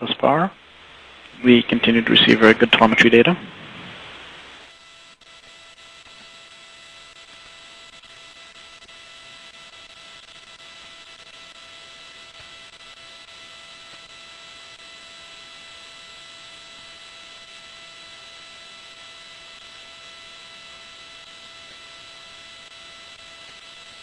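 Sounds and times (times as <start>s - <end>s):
electrical hum: 0.0s - 24.0s
steady line hiss: 0.0s - 24.0s.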